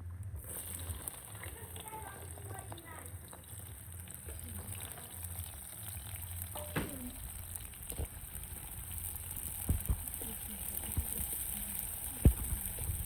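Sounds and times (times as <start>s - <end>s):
food sizzling in a pan: 0.4s - 13.0s.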